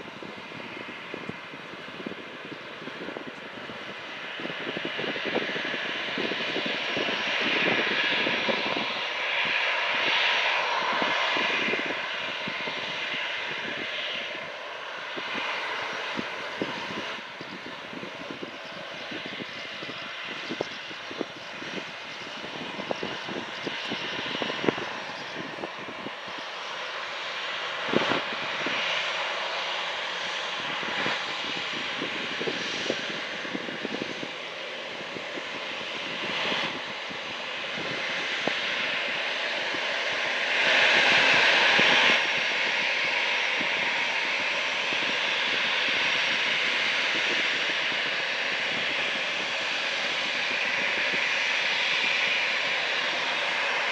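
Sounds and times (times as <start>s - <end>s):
airliner engines roaring: 0.0s - 53.9s.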